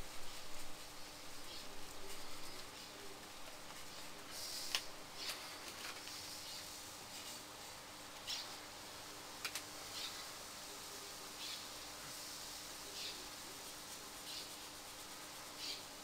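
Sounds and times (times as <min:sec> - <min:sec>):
paintbrush swishing on paper: 0:00.0 - 0:08.6, 0:09.8 - 0:16.0
faint steady hum: 0:00.0 - 0:16.0.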